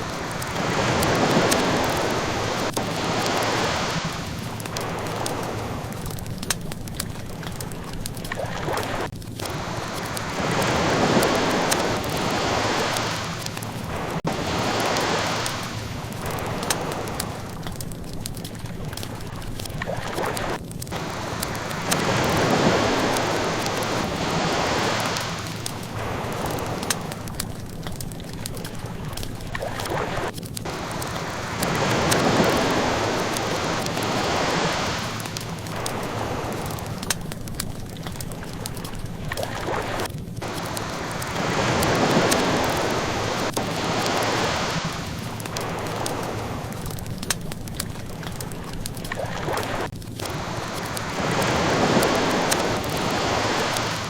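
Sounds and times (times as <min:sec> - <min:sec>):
ocean waves washing in: 0:00.0 - 0:54.0
wood fire crackling: 0:00.0 - 0:54.0.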